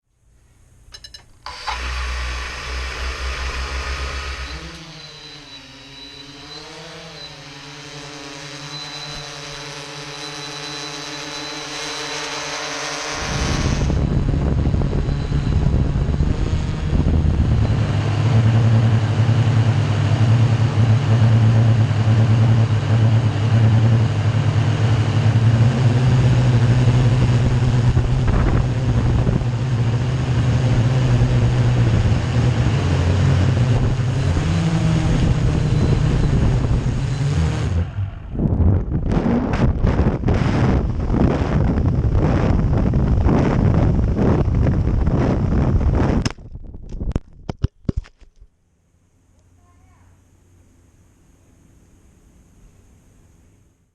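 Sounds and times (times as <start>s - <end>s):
quadcopter motors and propellers: 1.4s - 46.4s.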